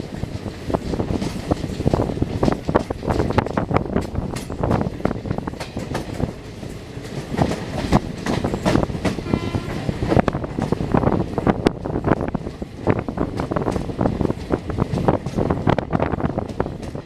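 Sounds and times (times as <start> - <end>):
train wheels clattering: 0.0 - 17.0.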